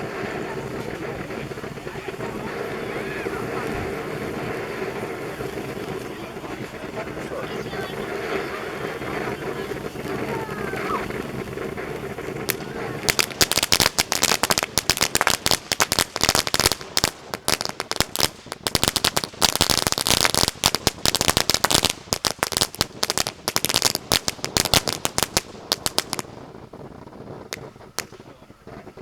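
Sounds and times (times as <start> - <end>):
firework fountain crackling: 0.0 - 29.0.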